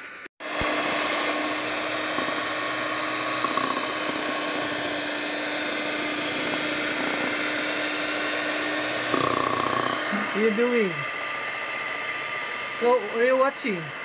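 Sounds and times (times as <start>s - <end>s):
electric hand mixer whirring: 0.0s - 14.0s.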